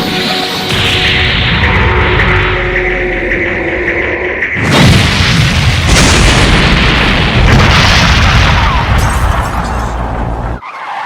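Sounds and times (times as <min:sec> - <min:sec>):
explosion-like boom: 0:00.7 - 0:10.6
sustained crashing noise: 0:00.7 - 0:10.6.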